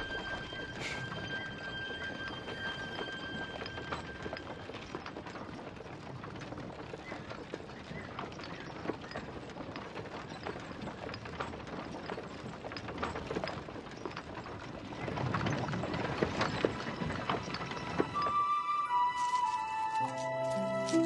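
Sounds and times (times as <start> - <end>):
horse hooves clip-clopping on gravel: 0.0 - 21.0
wooden cart rattling: 0.0 - 21.0.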